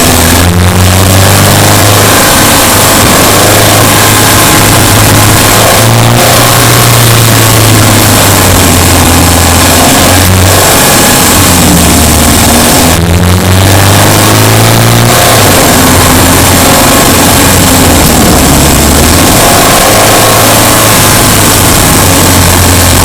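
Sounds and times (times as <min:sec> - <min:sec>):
car engine under load: 0:00.0 - 0:23.0.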